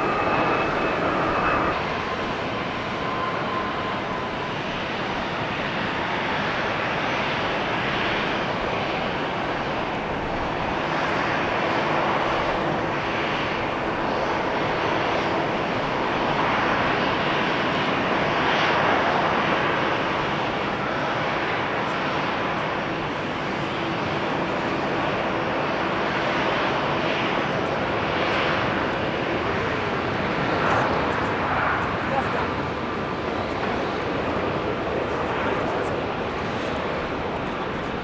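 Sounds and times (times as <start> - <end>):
jet engines rushing: 0.0 - 38.0.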